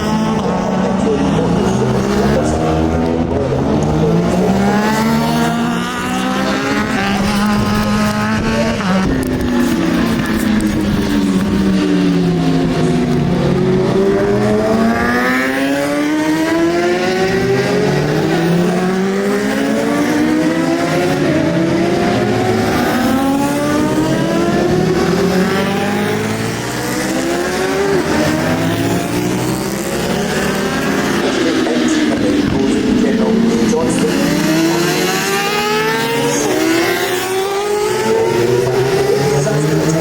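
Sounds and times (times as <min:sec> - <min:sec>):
motorcycle engines revving high: 0:00.0 - 0:40.0.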